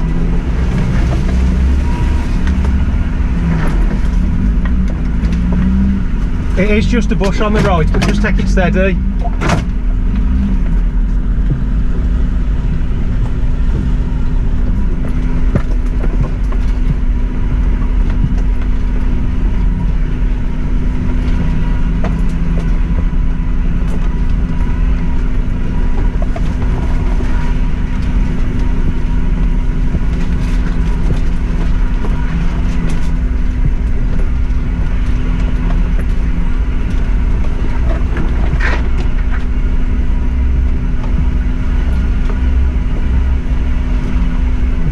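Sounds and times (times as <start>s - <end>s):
car engine drone: 0.0s - 44.9s.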